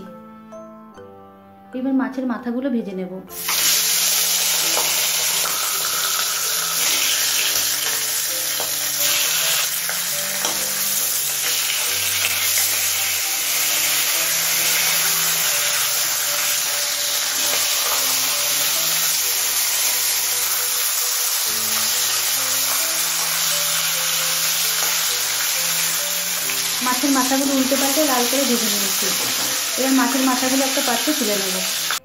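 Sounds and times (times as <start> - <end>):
soft background music: 0.0 - 32.0
fish frying in hot oil: 3.4 - 32.0.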